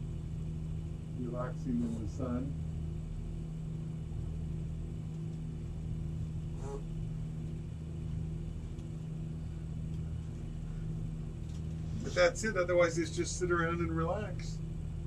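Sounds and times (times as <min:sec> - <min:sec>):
boat diesel engine droning: 0:00.0 - 0:03.1, 0:05.6 - 0:15.0.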